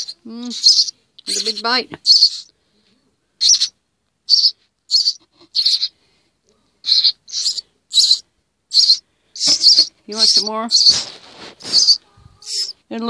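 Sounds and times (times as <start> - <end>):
nestling birds begging calls: 0.0 - 2.5, 3.4 - 6.0, 6.8 - 12.8.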